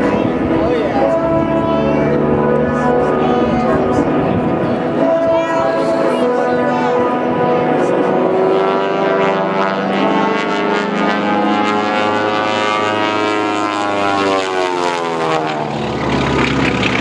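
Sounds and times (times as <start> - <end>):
propeller airplane passing: 0.0 - 17.0.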